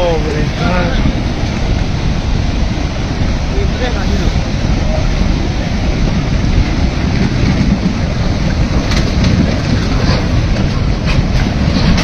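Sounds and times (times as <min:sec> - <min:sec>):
mudflow rushing: 0:00.0 - 0:12.0.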